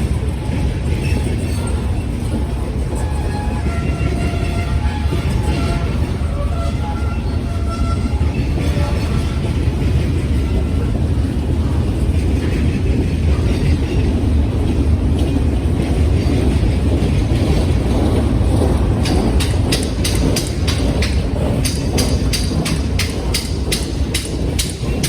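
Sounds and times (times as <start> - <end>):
train cars rumbling: 0.0 - 25.0
wheels clicking over rail joints: 0.3 - 25.0.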